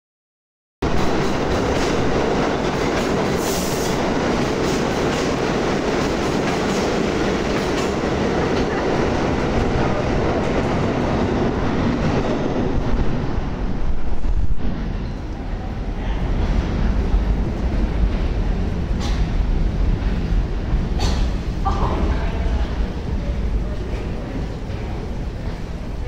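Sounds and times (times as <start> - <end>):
subway train rumbling: 0.8 - 26.0.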